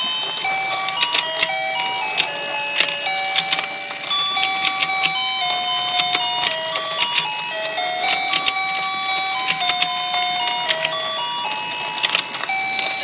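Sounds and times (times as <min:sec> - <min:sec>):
plastic toy clicking: 0:00.2 - 0:13.0.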